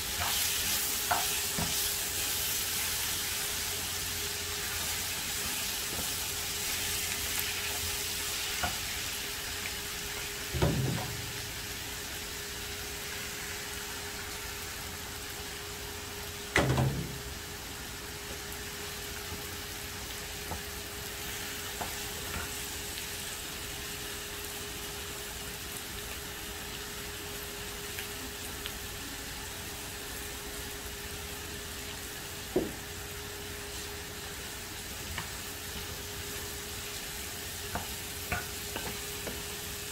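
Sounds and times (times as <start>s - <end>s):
filling sizzling in a frying pan: 0.0s - 39.9s.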